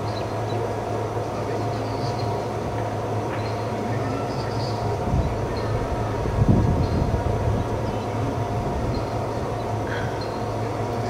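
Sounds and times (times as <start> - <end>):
mechanical drone with high tones: 0.0 - 11.0.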